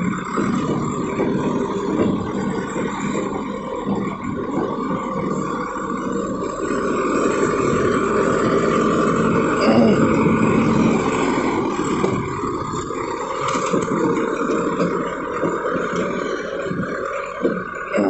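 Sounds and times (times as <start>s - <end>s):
backhoe engine running: 0.0s - 18.0s.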